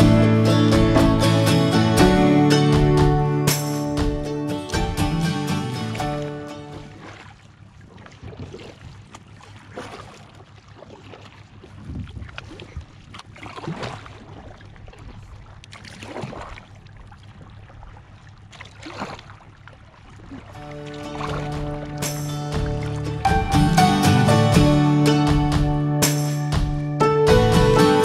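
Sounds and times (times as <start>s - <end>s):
kayak paddles splashing in water: 0.0s - 28.0s.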